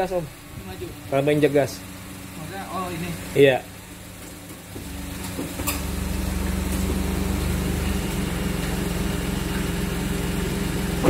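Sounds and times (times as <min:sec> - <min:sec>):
car engine running under throttle: 0:00.0 - 0:11.0.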